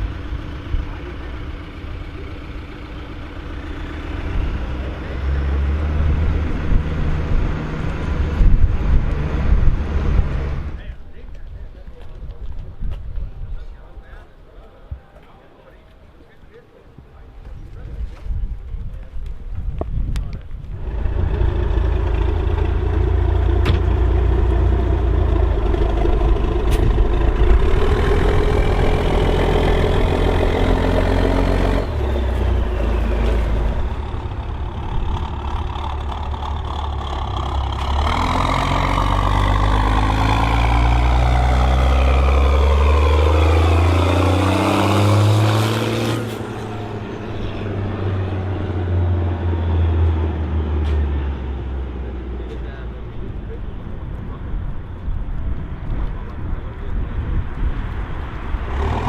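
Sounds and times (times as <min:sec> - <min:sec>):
tractor diesel engine under load: 0:00.0 - 0:14.8, 0:17.1 - 0:59.0.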